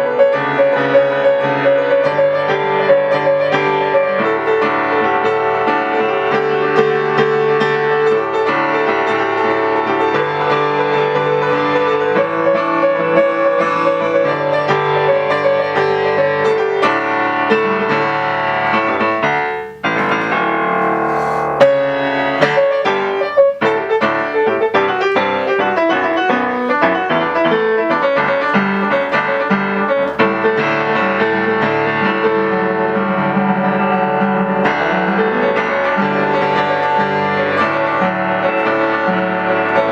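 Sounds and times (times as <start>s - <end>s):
solo piano playing fast: 0.0s - 39.9s.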